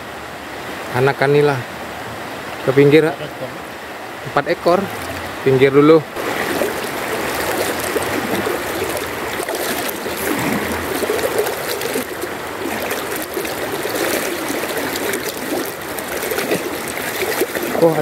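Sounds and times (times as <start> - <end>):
river water trickling: 0.0 - 18.0.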